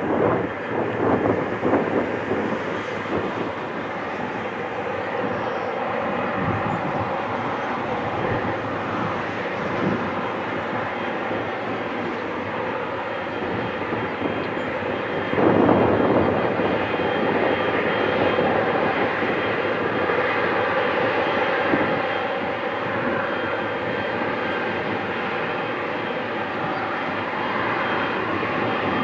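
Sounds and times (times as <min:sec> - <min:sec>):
jet engines taxiing: 0:00.0 - 0:29.0.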